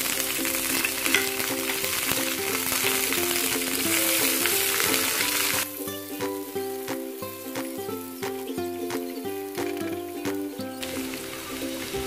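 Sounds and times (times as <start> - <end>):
background music: 0.0 - 12.0
vegetables sizzling in hot oil: 0.0 - 12.0.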